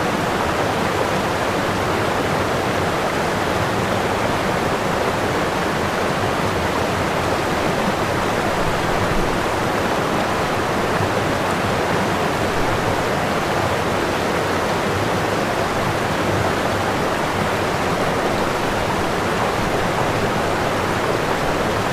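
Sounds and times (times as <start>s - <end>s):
running water rushing: 0.0s - 21.9s.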